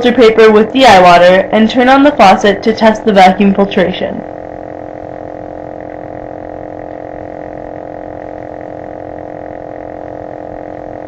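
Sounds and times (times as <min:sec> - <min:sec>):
drone of held tones: 0:00.0 - 0:11.0.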